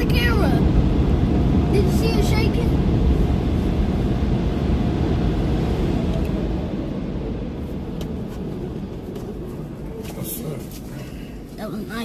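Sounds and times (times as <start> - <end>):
car wash air dryers blowing: 0.0 - 11.5.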